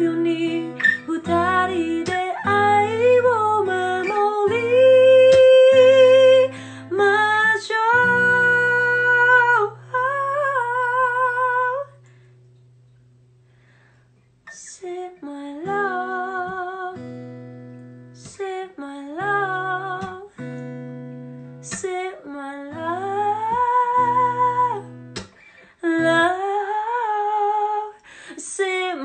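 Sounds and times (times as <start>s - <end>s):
woman singing slow song: 0.0s - 12.1s, 14.5s - 20.6s, 21.5s - 29.0s.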